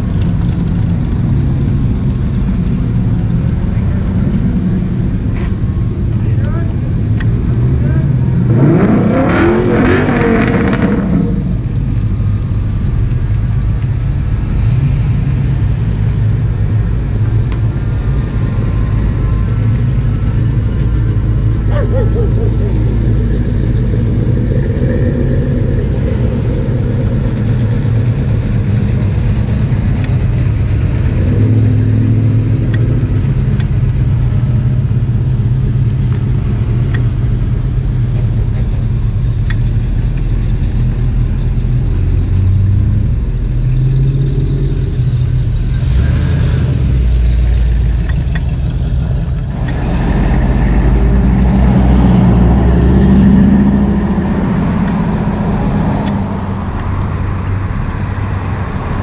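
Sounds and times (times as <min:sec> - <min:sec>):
car engines driving past: 0:00.0 - 0:59.0
road noise of passing vehicles: 0:00.0 - 0:59.0.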